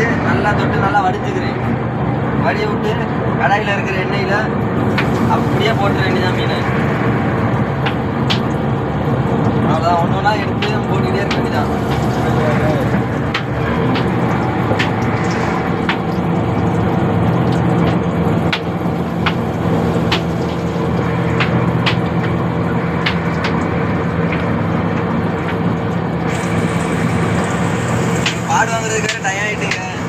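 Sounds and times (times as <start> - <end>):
low mechanical drone: 0.0 - 30.0
fish frying in oil: 4.8 - 30.0
oil popping and crackling: 4.8 - 30.0.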